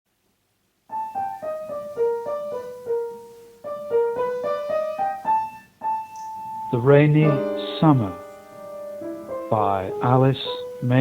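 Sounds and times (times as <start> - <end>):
slow piano melody: 0.9 - 11.0.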